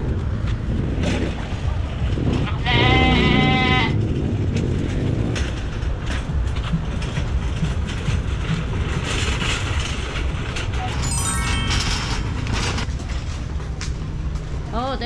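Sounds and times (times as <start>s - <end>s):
shopping cart rattling on pavement: 0.0s - 15.0s.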